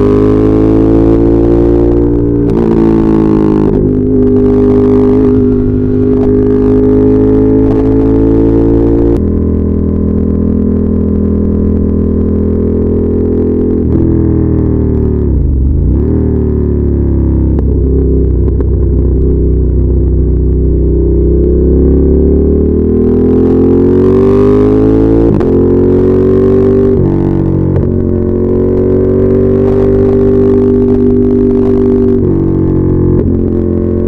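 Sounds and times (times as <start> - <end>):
motorcycle engine and exhaust: 0.0 - 34.0.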